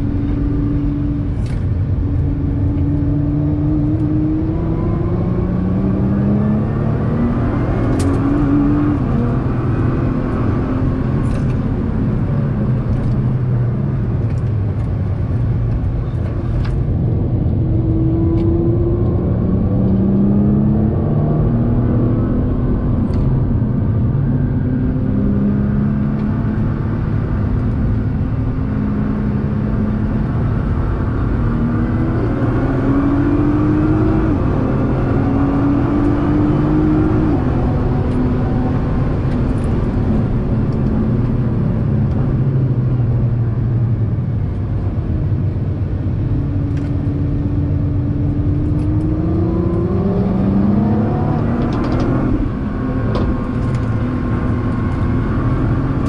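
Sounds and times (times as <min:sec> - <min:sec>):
car engine revving in cabin: 0:00.0 - 0:56.0.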